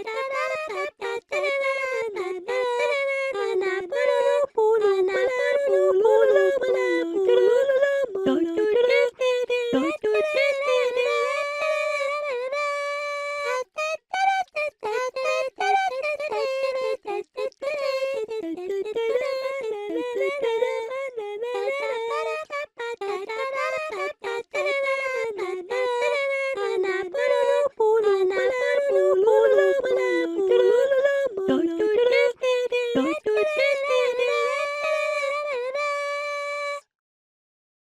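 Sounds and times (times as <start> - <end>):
girl singing in high voice: 0.0 - 36.9.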